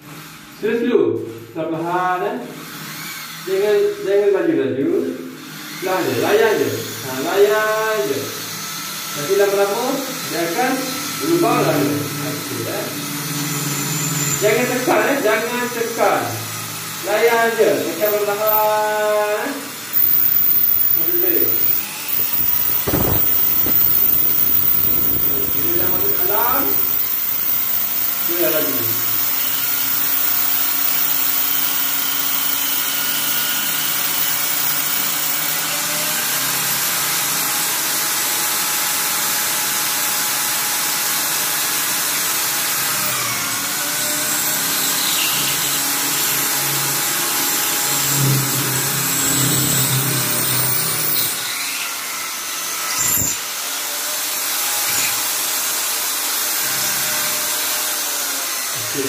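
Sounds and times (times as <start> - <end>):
electric drill grinding through tile: 0.0 - 0.6, 1.2 - 4.4, 5.1 - 59.0.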